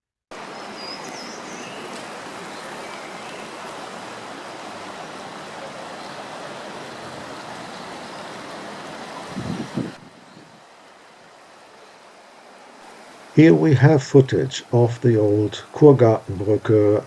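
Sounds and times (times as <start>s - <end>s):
river water rushing: 0.3s - 17.0s.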